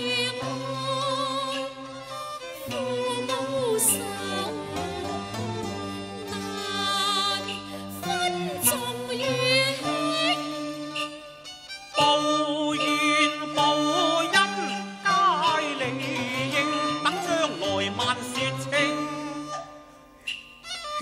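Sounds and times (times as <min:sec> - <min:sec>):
opera singing with vibrato: 0:00.0 - 0:11.2, 0:12.0 - 0:19.6
bowed strings: 0:00.0 - 0:21.0.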